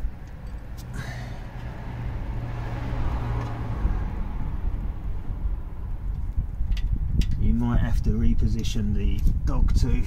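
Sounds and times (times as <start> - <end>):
vehicle engine hum: 0.0 - 9.5.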